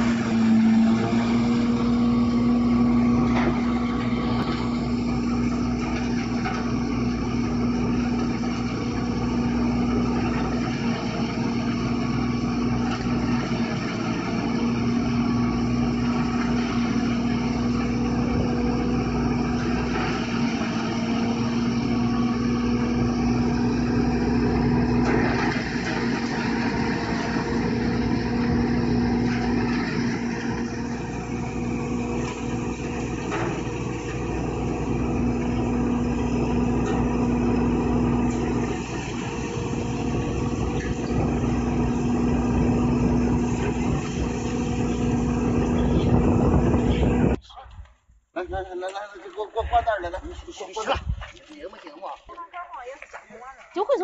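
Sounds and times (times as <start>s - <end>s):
feed grinder crushing straw: 0.0s - 47.4s.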